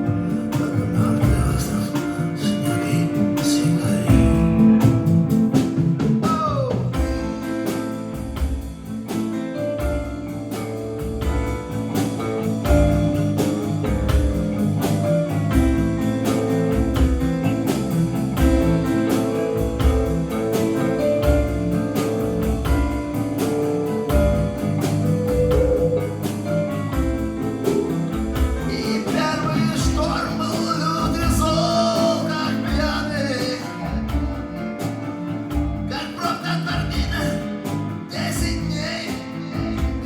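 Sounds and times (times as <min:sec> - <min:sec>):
guitar: 0:00.0 - 0:40.0
steady drum beat: 0:00.0 - 0:40.0.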